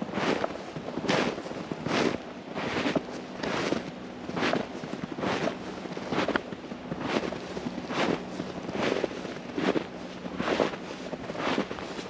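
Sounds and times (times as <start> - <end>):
footsteps crunching through snow: 0.0 - 12.0.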